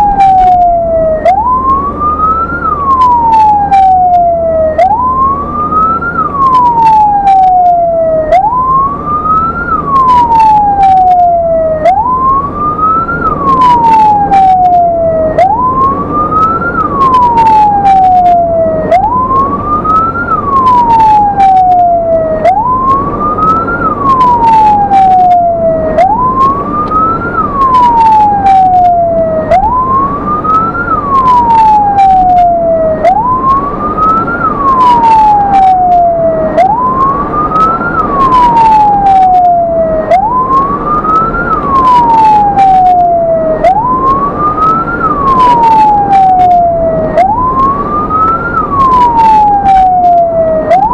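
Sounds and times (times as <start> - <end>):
ambulance siren wailing: 0.0 - 50.9
engine and road noise: 0.0 - 50.9.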